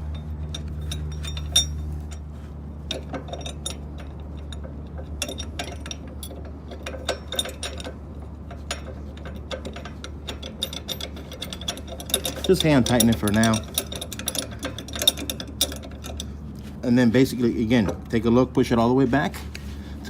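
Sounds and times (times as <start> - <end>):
small metal clinks: 0.0 - 16.4
steady low hum: 0.0 - 20.0.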